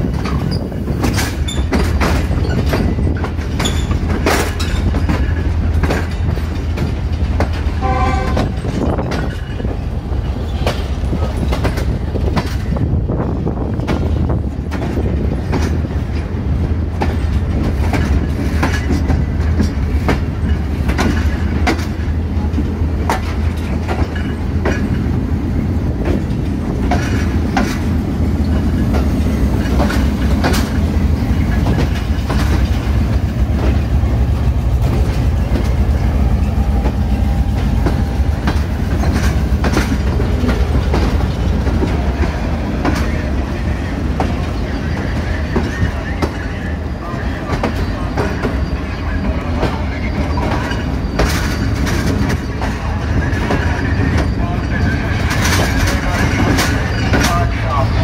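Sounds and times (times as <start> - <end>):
wheels clicking over rail joints: 0.0 - 12.9, 13.7 - 25.3, 25.9 - 43.3, 49.6 - 58.0
train coaches rumbling: 0.0 - 58.0.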